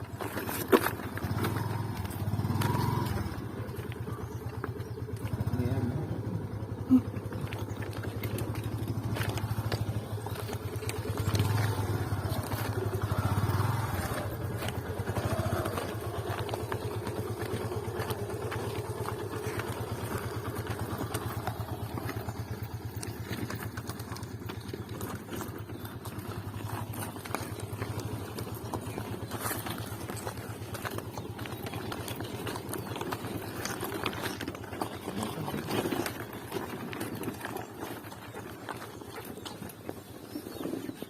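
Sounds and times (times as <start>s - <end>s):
motorcycle engine droning: 0.0s - 41.0s.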